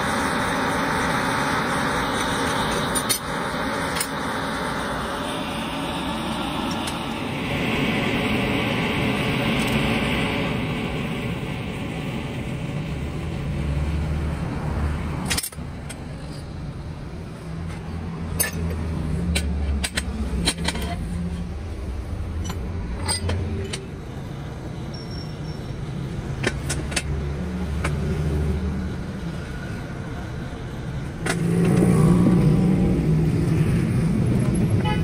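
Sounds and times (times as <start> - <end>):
low motor drone: 0.0 - 24.9, 25.8 - 35.0.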